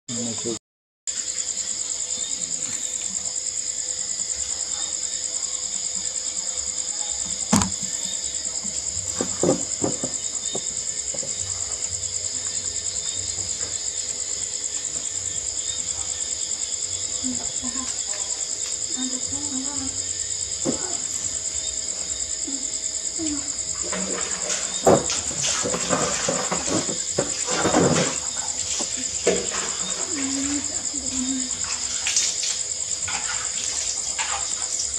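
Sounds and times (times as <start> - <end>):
crickets chirring: 0.1 - 34.9.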